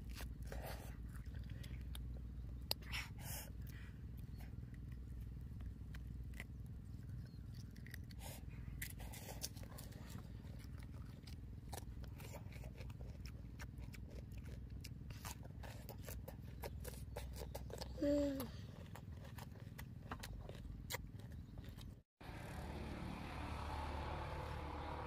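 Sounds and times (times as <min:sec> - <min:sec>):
child chewing and crunching: 0:00.0 - 0:22.0
low steady hum: 0:00.0 - 0:25.0.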